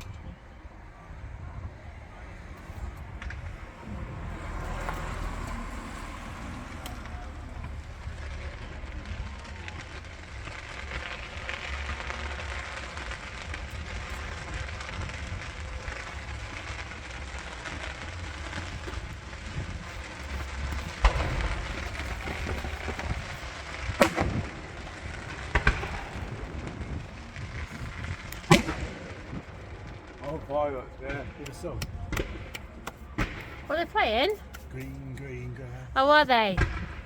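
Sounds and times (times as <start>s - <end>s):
distant fireworks bangs: 0.0s - 34.8s, 36.0s - 37.0s
steady low rumble: 0.0s - 37.0s.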